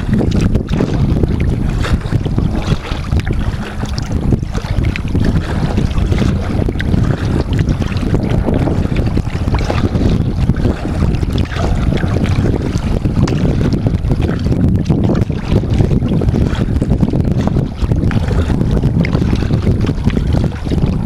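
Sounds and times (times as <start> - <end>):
water splashing against hull: 0.0 - 21.0
wind noise on microphone: 0.0 - 21.0.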